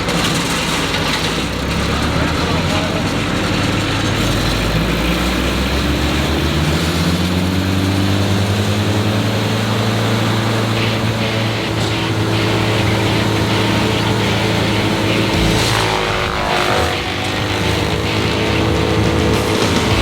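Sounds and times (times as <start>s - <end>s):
wood chipper engine throttling up: 0.0s - 20.0s.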